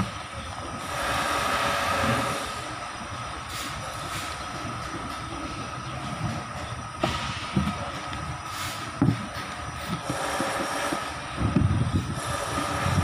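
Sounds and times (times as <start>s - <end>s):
faint constant whine: 0.0s - 13.0s.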